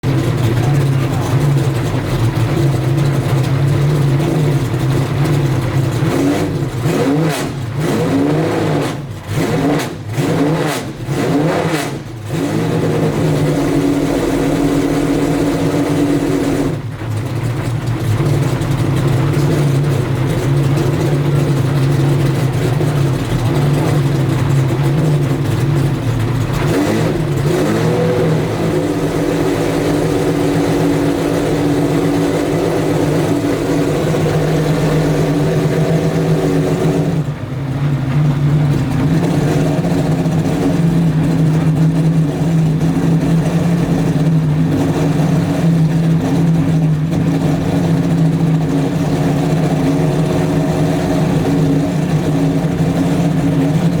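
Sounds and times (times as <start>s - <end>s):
race car engine fast idle: 0.0s - 10.2s, 11.9s - 54.0s.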